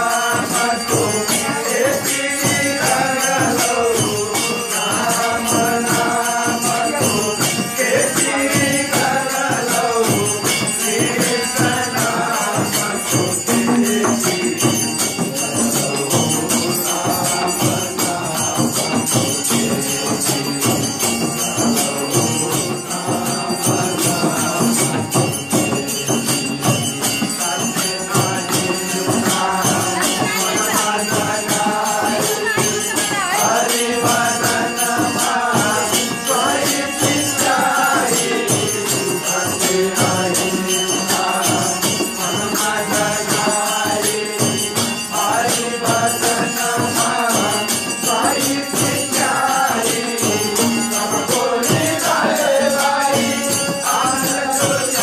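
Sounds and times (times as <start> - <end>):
hand frame drum: 0.0 - 55.0
men singing together: 0.0 - 55.0.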